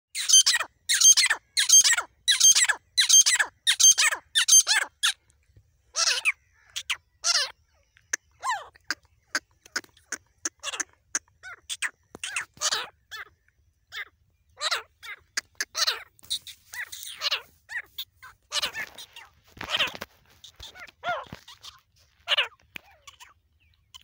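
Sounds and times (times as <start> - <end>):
francolin calling: 0.2 - 24.0.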